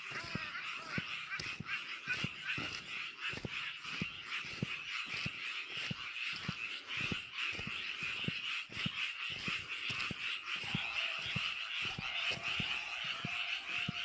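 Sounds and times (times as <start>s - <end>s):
high-pitched frog chorus: 0.0s - 14.0s.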